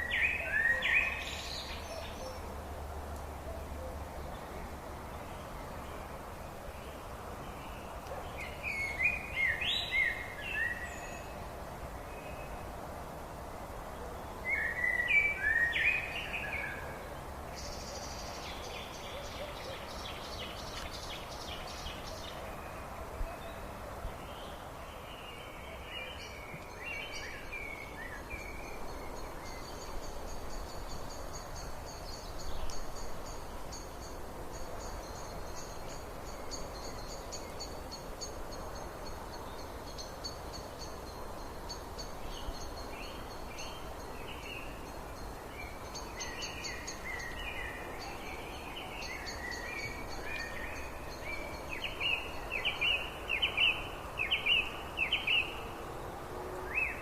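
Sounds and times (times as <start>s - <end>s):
steady background hiss: 0.0s - 57.0s
wild birds singing: 0.0s - 57.0s.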